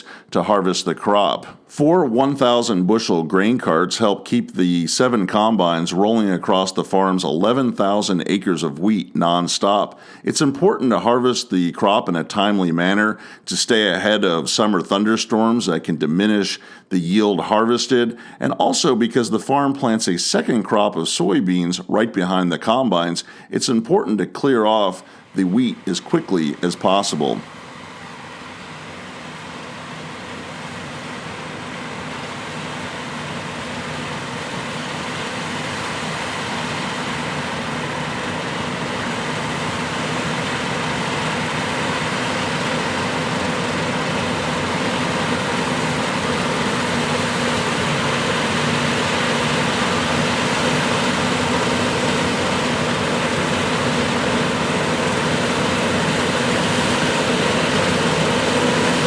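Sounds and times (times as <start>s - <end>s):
combine harvester drone: 0.0s - 15.8s, 22.2s - 59.0s.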